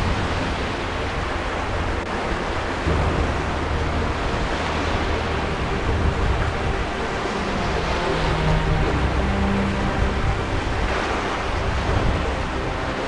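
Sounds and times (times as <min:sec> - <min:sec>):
low sustained bass notes: 0:00.0 - 0:13.0.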